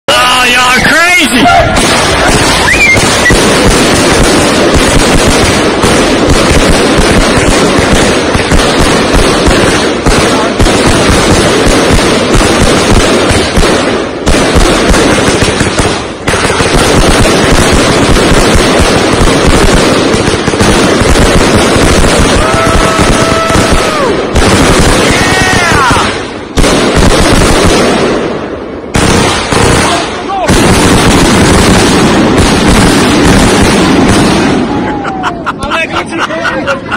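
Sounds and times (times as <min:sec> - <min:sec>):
fireworks bursting: 0:00.1 - 0:36.9.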